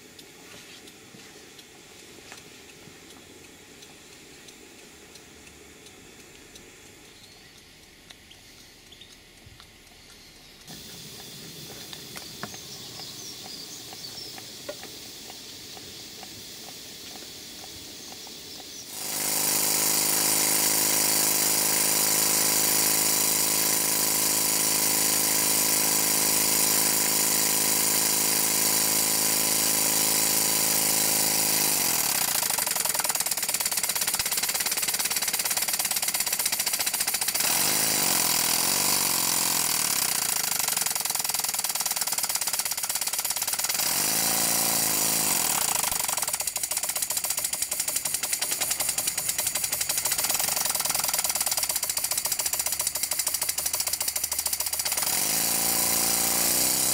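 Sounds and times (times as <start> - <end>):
model steam engine running: 10.6 - 18.2, 18.9 - 56.9
steam hiss: 10.7 - 56.9.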